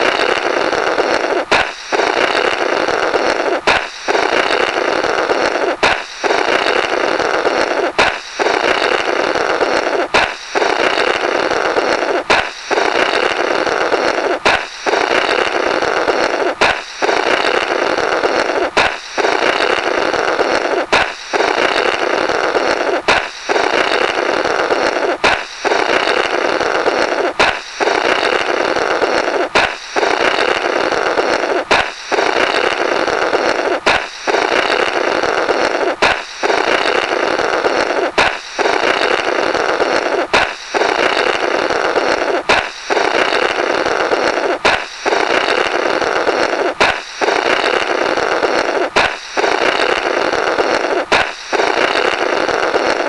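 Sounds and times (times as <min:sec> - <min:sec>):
air blown through broken balloon: 0:00.0 - 0:53.0
balloon bursting pop: 0:00.0 - 0:53.0.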